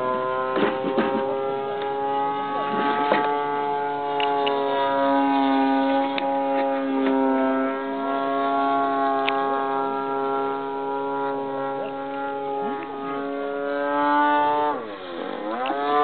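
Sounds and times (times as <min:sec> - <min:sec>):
model plane engine droning: 0:00.0 - 0:16.0.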